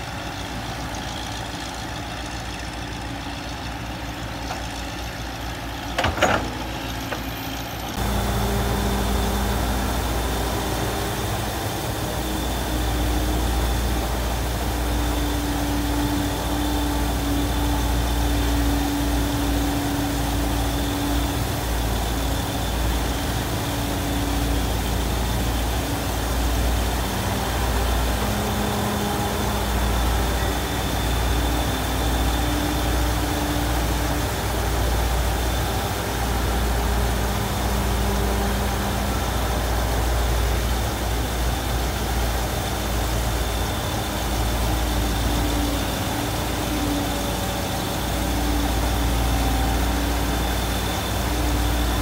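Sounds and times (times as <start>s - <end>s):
diesel excavator engine: 0.0s - 52.0s
engine low hum: 0.0s - 52.0s
loud machine clatter: 0.0s - 52.0s.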